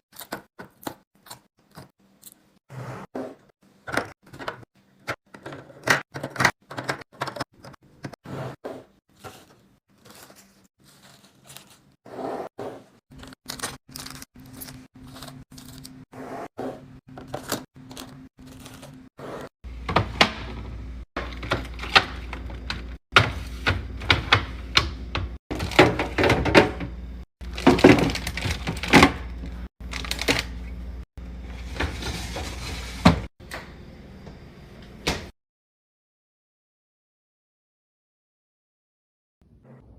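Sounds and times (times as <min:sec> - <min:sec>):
low fridge hum: 0:00.1 - 0:35.3.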